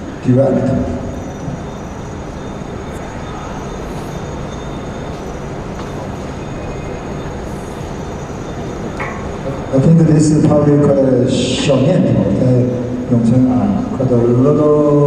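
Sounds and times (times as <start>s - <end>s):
low rumble of background noise: 0.0s - 15.0s.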